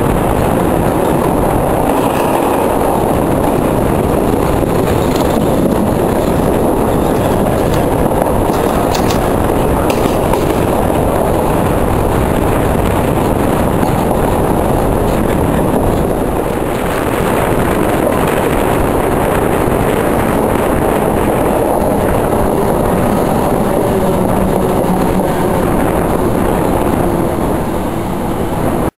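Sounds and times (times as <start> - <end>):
faint train whine: 0.0 - 28.9
train wheel and wind noise: 0.0 - 28.9.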